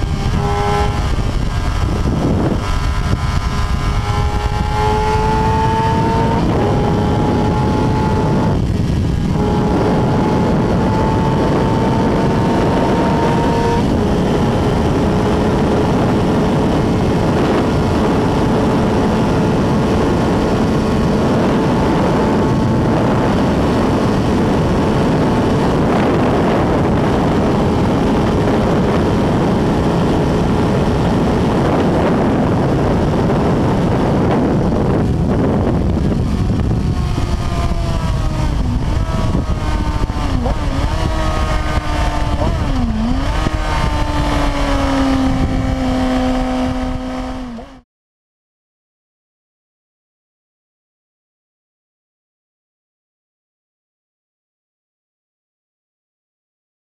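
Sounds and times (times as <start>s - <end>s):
motorcycle engine running hard: 0.0s - 47.8s
wind rush: 0.0s - 47.8s.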